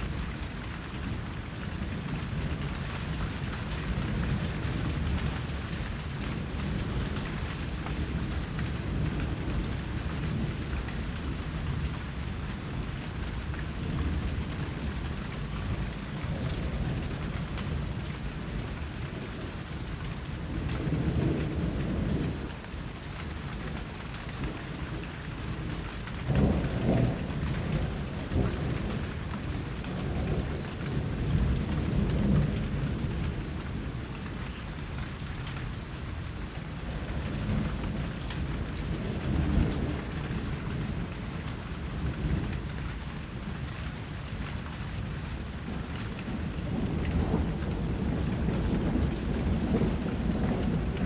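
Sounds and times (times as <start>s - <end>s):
steady rain hiss: 0.0s - 51.0s.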